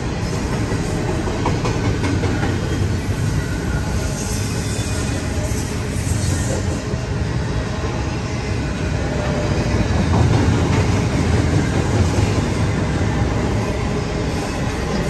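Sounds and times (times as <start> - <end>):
steel wheels rolling on rail: 0.0 - 15.0.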